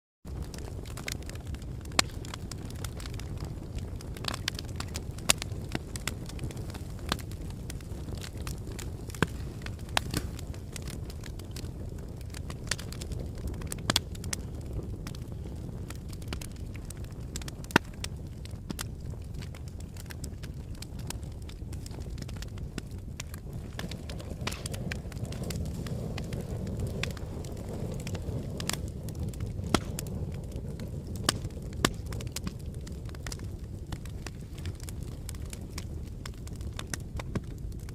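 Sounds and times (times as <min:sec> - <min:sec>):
fire crackling and popping: 0:00.3 - 0:37.9
fire flames rumbling: 0:00.3 - 0:37.9.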